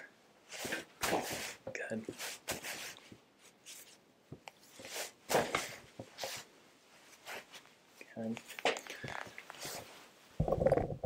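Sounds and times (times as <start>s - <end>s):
fabric rustling against socks: 0.4s - 10.4s.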